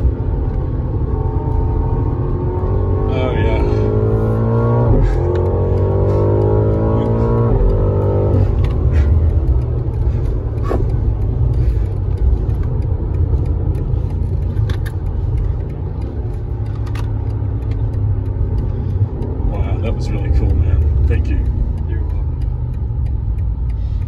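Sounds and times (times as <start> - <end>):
car engine revving: 0.0 - 24.0
road noise inside car: 0.0 - 24.0.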